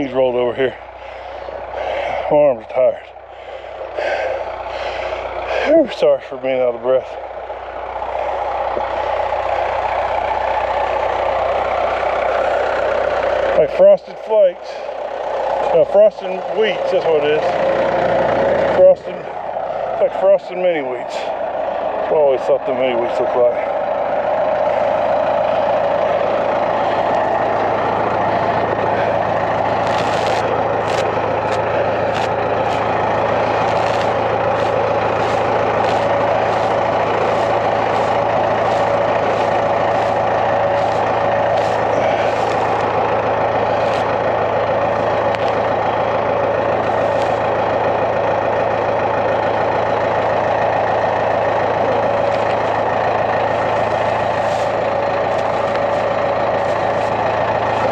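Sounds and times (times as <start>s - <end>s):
heavy engine running: 0.0s - 57.9s.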